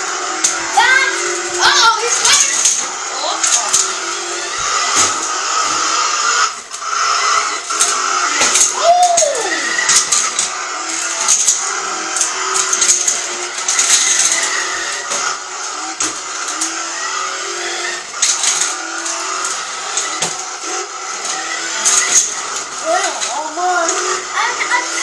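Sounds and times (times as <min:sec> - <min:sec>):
toy truck electric motor whining: 0:00.0 - 0:25.0
wheels rattling on tile: 0:00.0 - 0:25.0
toy truck bumping into things: 0:00.3 - 0:24.1.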